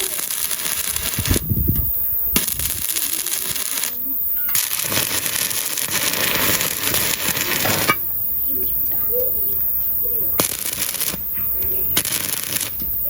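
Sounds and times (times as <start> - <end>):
welding arc crackling and sizzling: 0.0 - 13.0.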